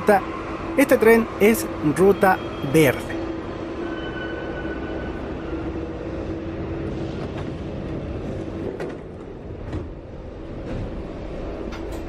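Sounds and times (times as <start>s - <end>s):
station noise: 0.0s - 12.0s
train equipment humming: 0.0s - 12.0s.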